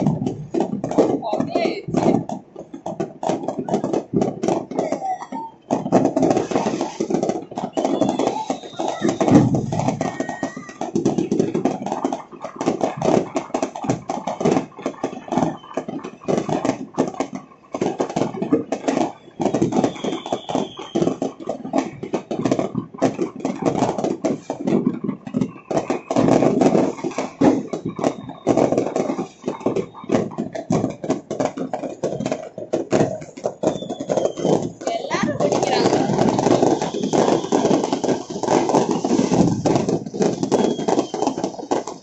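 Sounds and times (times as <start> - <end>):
fireworks crackling and banging: 0.0 - 42.0
firework high whistle: 4.9 - 17.6, 18.4 - 24.5, 25.3 - 30.7, 31.5 - 42.0.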